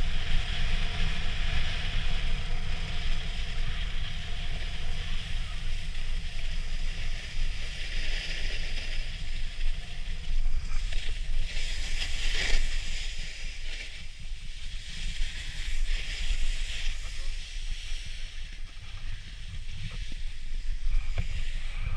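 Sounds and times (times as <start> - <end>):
snowboard scraping over snow: 0.0 - 21.9
wind rumbling on microphone: 0.0 - 21.9.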